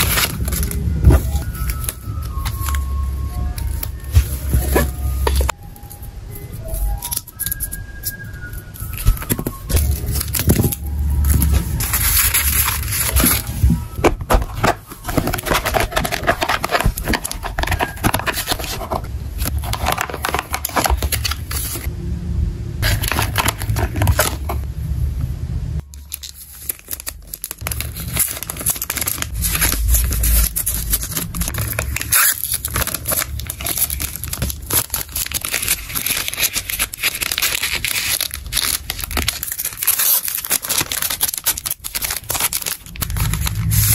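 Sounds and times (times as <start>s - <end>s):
packaging tearing: 0.0s - 5.5s, 8.8s - 21.9s, 22.8s - 24.6s, 26.0s - 43.9s
plastic and paper crinkling: 0.0s - 5.6s, 6.7s - 21.9s, 22.8s - 24.6s, 25.8s - 43.9s.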